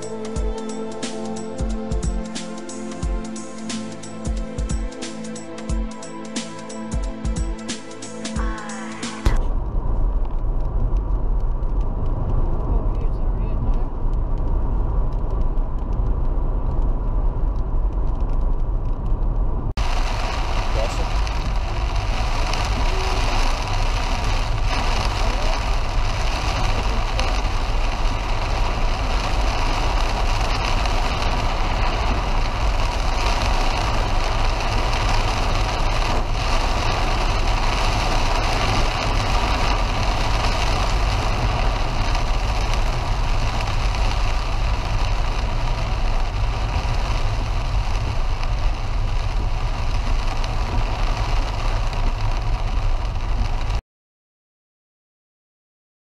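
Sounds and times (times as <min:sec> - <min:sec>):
car road and engine rumble: 0:00.0 - 0:53.8
rain and tyre spray hiss: 0:00.0 - 0:53.8.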